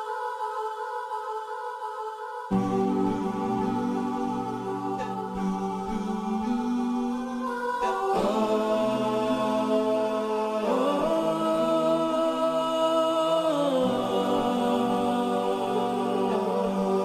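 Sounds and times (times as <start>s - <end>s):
slow ambient music: 2.5s - 17.0s.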